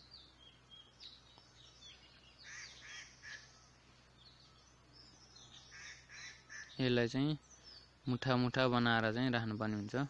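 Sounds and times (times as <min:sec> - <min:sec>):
low steady hum: 0:00.0 - 0:10.0
small birds chirping: 0:00.0 - 0:10.0.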